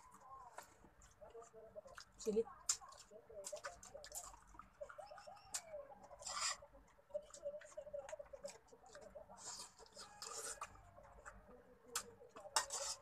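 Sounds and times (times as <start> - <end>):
eating smacking: 0.5 - 13.0.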